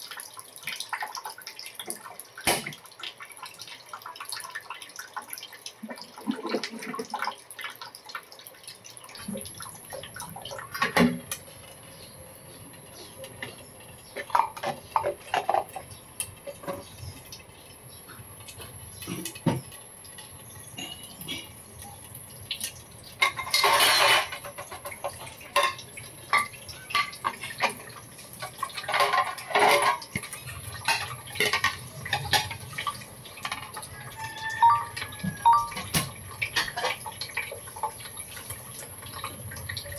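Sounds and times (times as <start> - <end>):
juice dripping into dish: 0.0 - 39.9.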